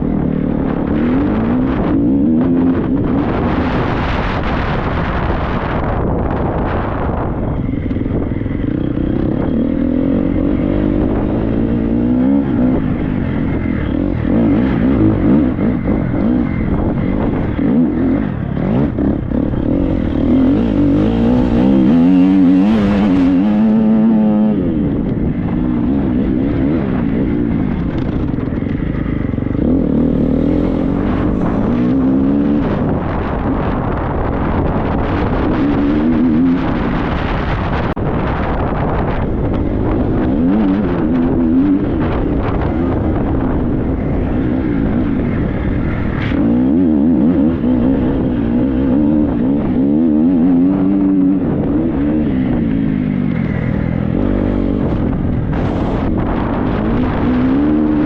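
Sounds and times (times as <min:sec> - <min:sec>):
wind buffeting microphone: 0:00.0 - 0:58.0
motocross bike engine revving: 0:06.6 - 0:58.0.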